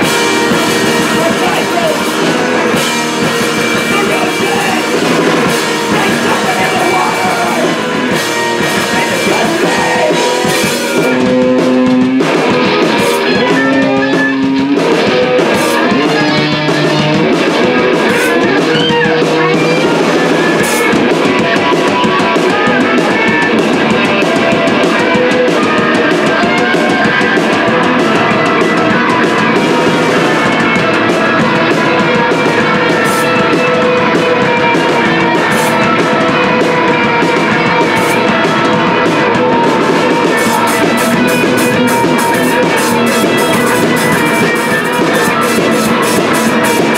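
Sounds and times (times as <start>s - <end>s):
bass guitar: 0.0s - 46.9s
drum kit: 0.0s - 46.9s
electric guitars: 0.0s - 46.9s.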